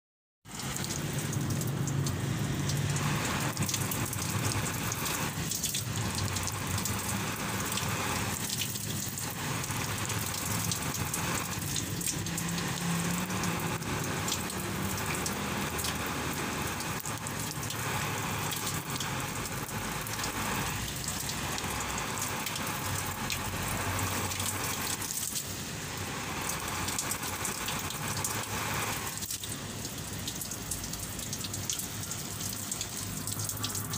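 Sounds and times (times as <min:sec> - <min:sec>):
water splashing onto leaves: 0:00.5 - 0:33.9.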